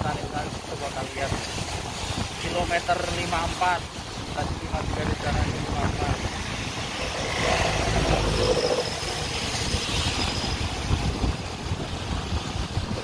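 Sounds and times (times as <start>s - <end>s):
vehicle engine and road noise: 0.0s - 13.0s
wind rumbling on microphone: 0.0s - 13.0s.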